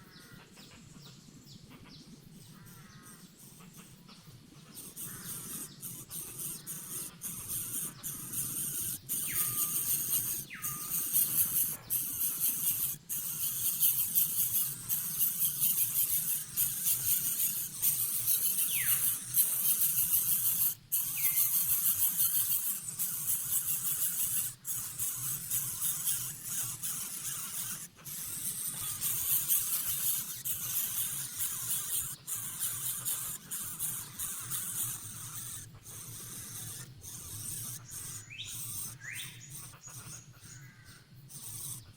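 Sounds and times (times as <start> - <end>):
nestlings hissing: 5.1 - 39.7.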